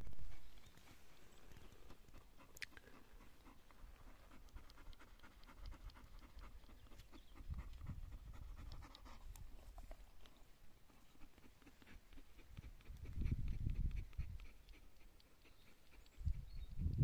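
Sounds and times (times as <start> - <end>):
dog panting: 0.3 - 10.0, 10.8 - 17.0.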